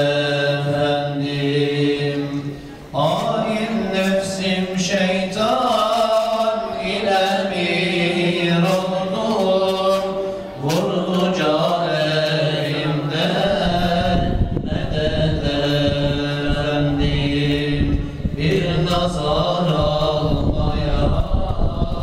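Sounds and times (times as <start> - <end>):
man chanting a religious hymn: 0.0 - 22.0.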